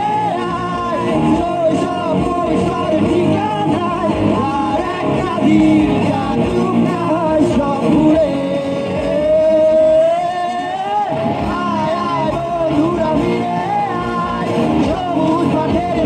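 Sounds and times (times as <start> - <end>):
instrumental backing music: 0.0 - 16.0
person singing: 0.0 - 16.0.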